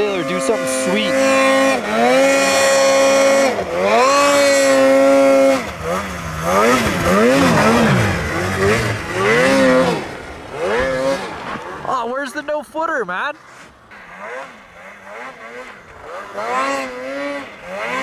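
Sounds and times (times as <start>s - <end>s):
snowmobile engine revving: 0.0s - 18.0s.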